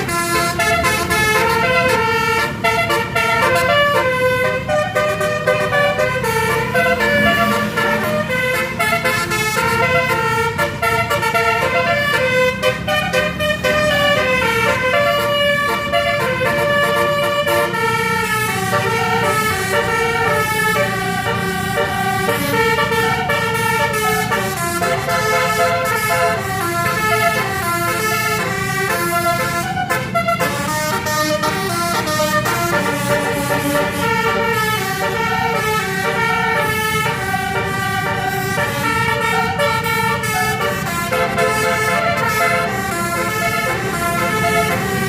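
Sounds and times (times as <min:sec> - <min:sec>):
bus horn playing a melody: 0:00.0 - 0:45.0
low engine rumble: 0:00.0 - 0:45.0.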